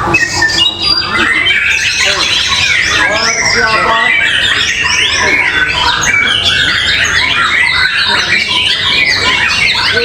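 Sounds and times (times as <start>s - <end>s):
songbirds singing: 0.0s - 10.0s.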